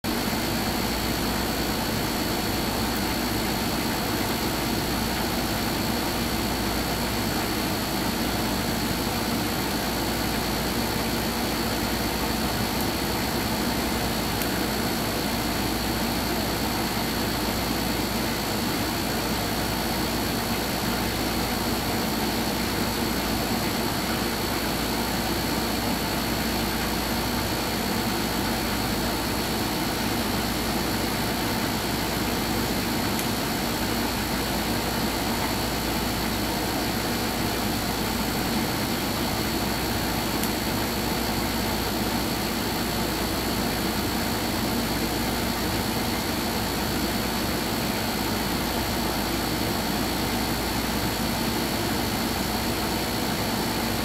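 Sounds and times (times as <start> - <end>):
machine hum and hiss: 0.0 - 54.0.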